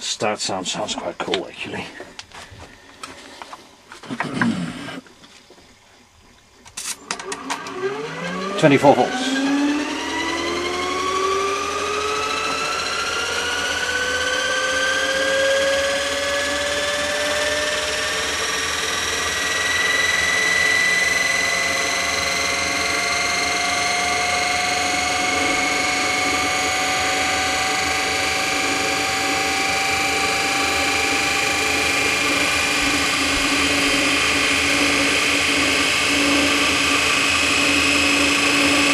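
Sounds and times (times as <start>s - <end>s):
electric motor whine: 6.7s - 38.9s.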